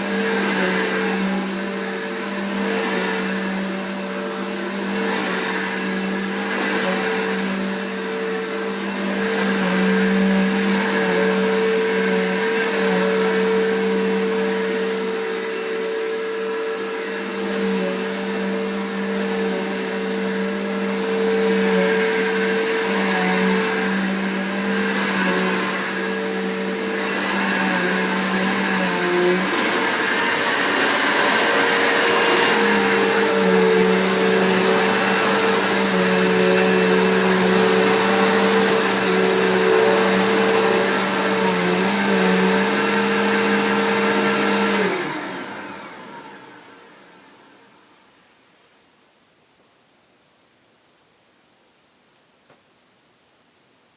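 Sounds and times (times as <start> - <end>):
vacuum motor winding down: 0.0 - 48.2
vacuum cleaner motor running: 0.0 - 48.3.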